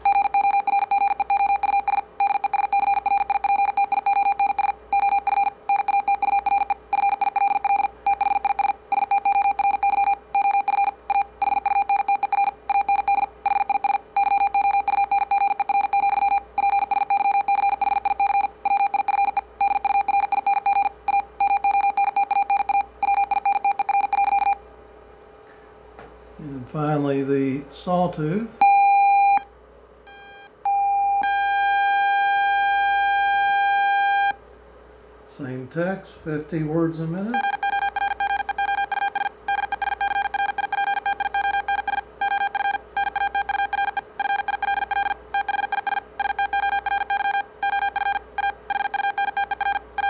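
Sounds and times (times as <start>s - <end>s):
morse code tone: 0.0s - 24.6s, 28.6s - 29.5s, 30.1s - 34.4s, 37.2s - 50.0s.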